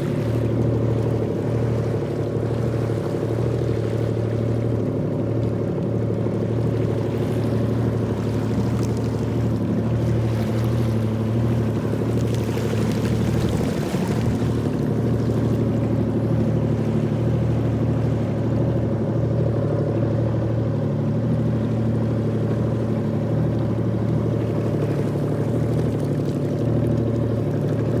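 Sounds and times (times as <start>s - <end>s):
jet ski engine humming: 0.0s - 28.0s.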